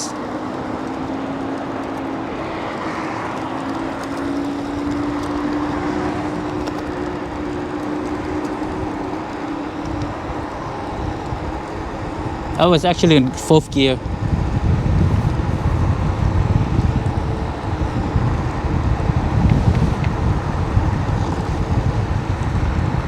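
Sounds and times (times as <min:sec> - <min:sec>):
electric scooter motor whine: 0:00.0 - 0:23.0
road noise: 0:00.0 - 0:23.0
wind noise: 0:00.0 - 0:23.0.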